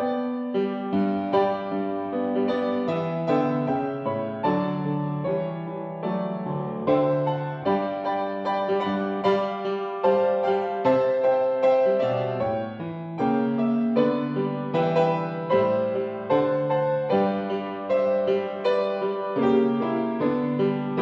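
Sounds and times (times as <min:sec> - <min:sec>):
slow gentle piano piece: 0:00.0 - 0:21.0.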